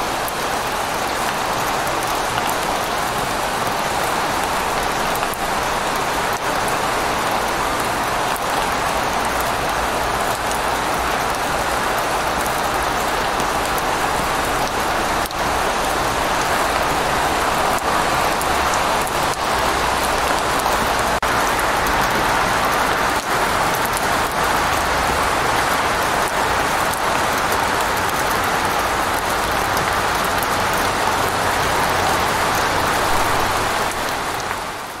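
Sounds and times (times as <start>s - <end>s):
tyres on wet road: 0.0s - 35.0s.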